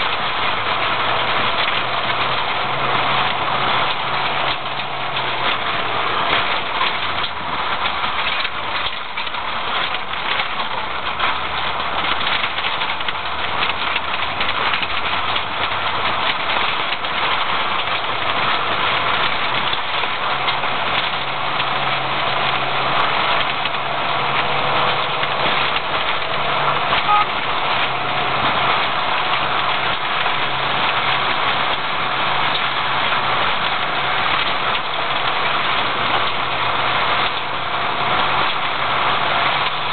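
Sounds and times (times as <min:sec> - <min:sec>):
car engine running: 0:00.0 - 0:39.9
tyre noise on dirt track: 0:00.0 - 0:39.9.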